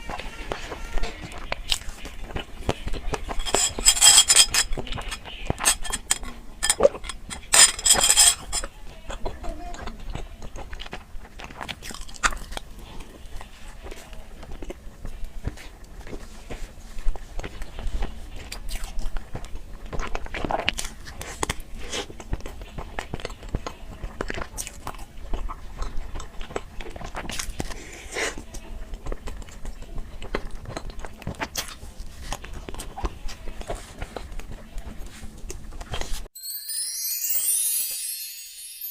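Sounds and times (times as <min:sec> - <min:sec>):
biting and chewing crunches: 0:00.0 - 0:36.3.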